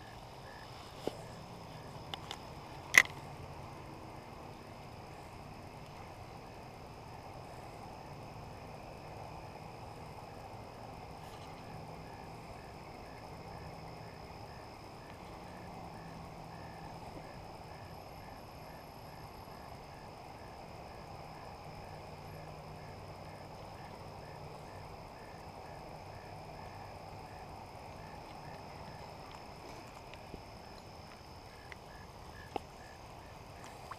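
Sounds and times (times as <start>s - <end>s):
faint low hum: 0.0s - 33.9s
insect chirping: 0.0s - 33.9s.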